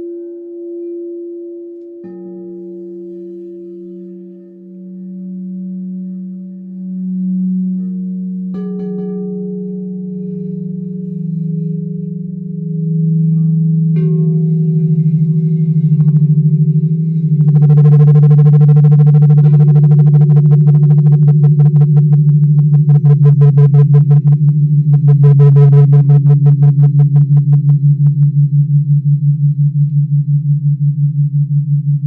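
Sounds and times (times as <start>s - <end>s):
bright pulsing bowl tone: 0.0s - 32.0s
singing bowls low tones: 0.0s - 32.0s.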